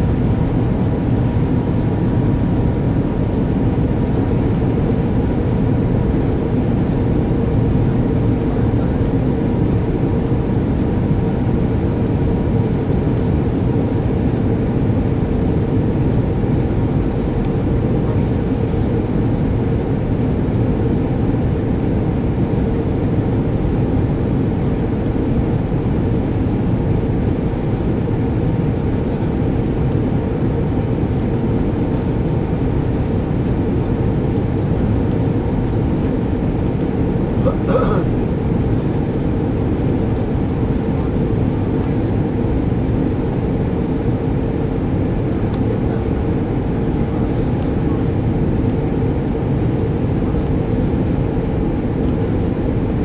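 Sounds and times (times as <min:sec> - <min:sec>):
faint steady hum: 0:00.0 - 0:53.0
jet engines droning: 0:00.0 - 0:53.0.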